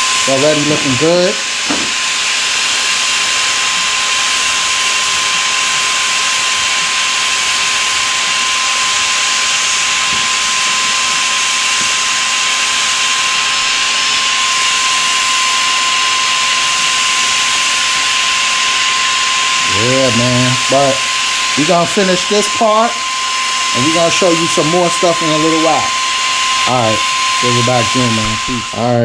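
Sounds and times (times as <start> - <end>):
paint sprayer hissing and whining: 0.0 - 29.0.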